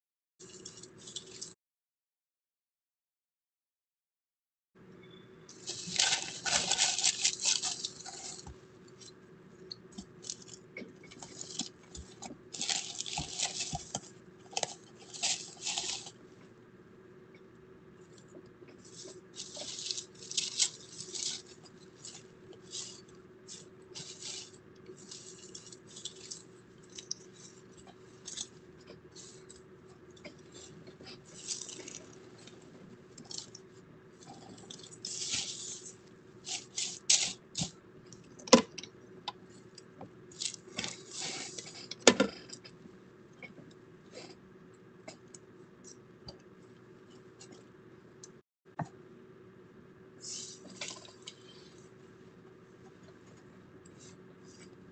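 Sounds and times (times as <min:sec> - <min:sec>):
low steady hum: 0:04.8 - 0:54.9.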